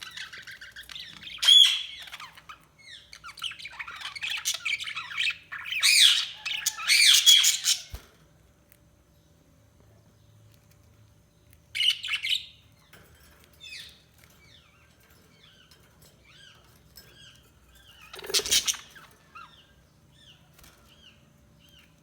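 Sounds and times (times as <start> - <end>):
budgies chirping: 0.0 - 8.1, 11.4 - 22.0.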